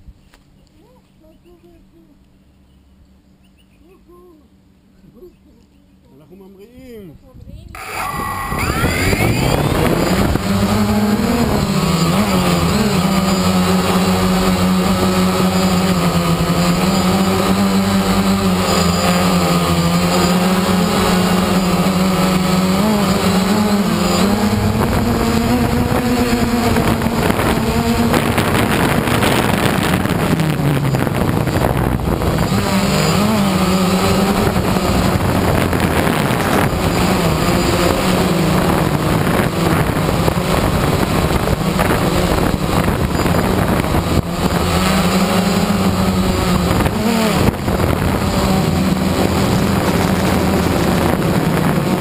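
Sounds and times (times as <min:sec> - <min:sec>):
drone propellers buzzing: 0:07.7 - 0:52.0.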